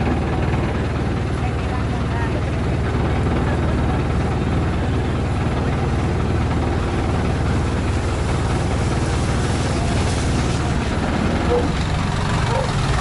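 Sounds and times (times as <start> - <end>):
boat engine throbbing: 0.0 - 13.0.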